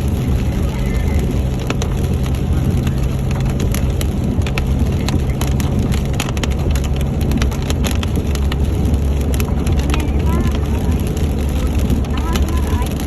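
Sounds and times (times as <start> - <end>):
raindrops ticking on car: 0.0 - 13.0
vehicle engine and road rumble: 0.0 - 13.0.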